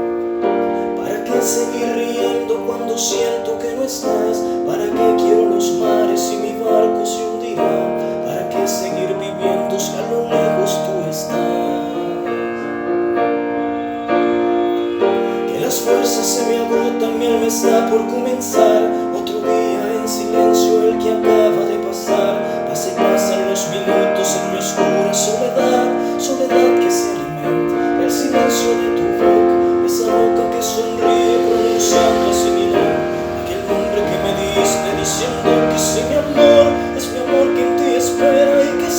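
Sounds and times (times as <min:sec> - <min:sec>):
pop ballad piano chords: 0:00.0 - 0:38.9.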